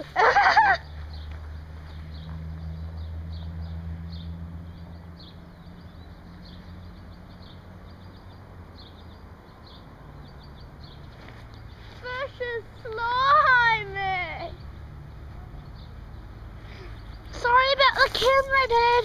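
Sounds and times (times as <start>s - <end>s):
low outdoor hum: 0.0s - 19.0s
small birds chirping: 0.0s - 19.0s.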